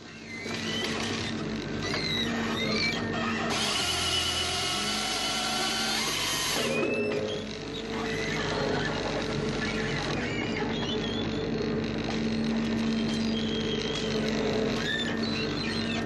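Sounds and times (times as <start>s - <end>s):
machinery whining and rumbling: 0.0s - 16.0s.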